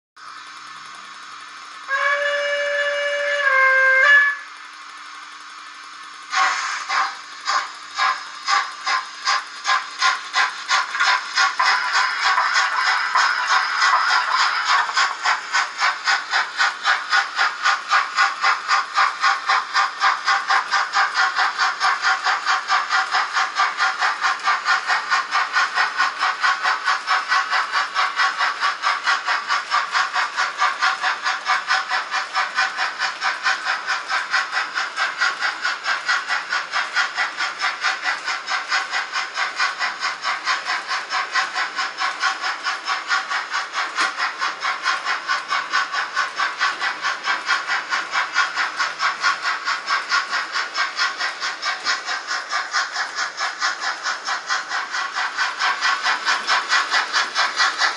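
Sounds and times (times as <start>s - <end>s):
model steam locomotive chuffing: 0.2s - 57.9s.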